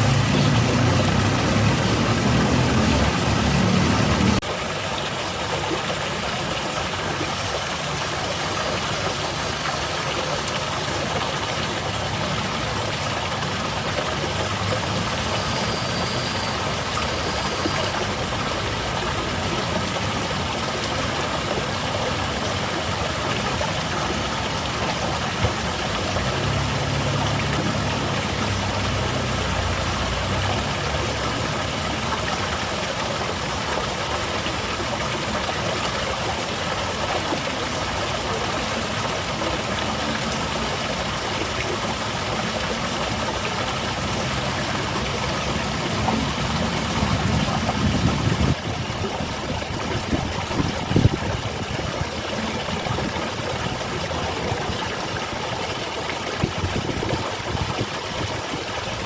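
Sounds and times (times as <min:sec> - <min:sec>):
waterfall splashing and rushing: 0:00.0 - 0:59.0.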